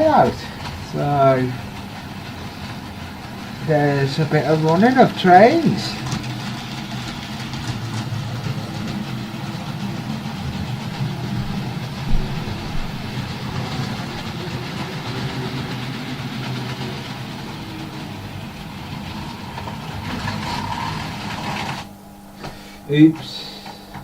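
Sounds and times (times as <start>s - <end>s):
model train humming: 0.0s - 24.0s.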